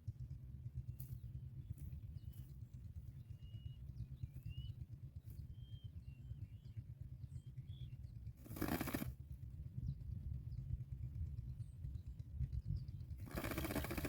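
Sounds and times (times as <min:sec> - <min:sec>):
low rumble of wind: 0:00.0 - 0:14.0.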